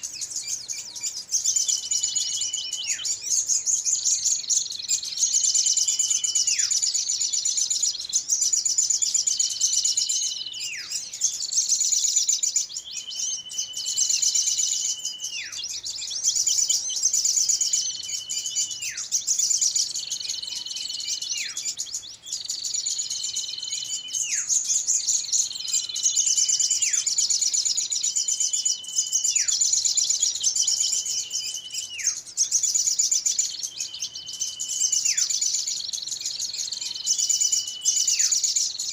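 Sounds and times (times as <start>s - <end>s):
high chittering bird trill: 0.0s - 38.9s.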